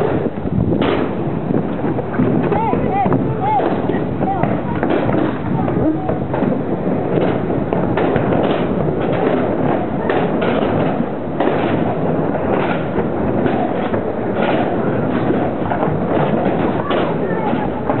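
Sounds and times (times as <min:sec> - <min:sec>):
skateboard clacks and thumps: 0:00.0 - 0:18.0
wheels rolling on concrete: 0:00.0 - 0:18.0.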